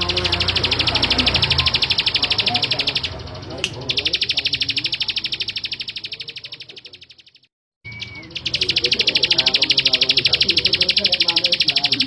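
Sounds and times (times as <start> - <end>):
bird singing buzzy trill: 0.0 - 12.0.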